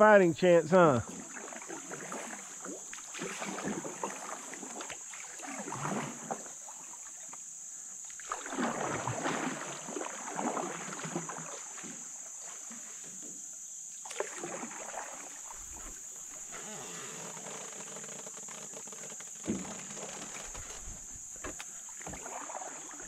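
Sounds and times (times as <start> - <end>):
paddle swirling water: 1.0 - 7.4, 8.0 - 23.0.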